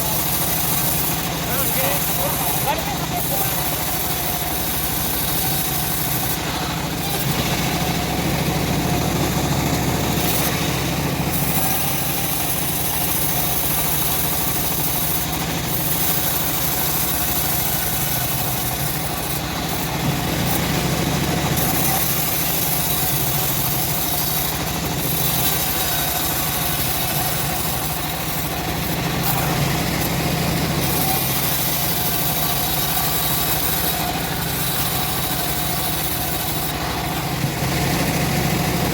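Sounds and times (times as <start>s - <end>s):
engine-driven bandsaw running: 0.0s - 38.9s.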